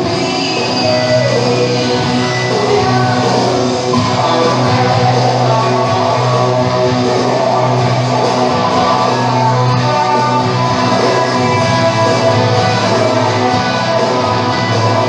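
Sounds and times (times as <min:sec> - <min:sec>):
held bass: 0:00.0 - 0:15.0
strummed guitar: 0:00.0 - 0:15.0.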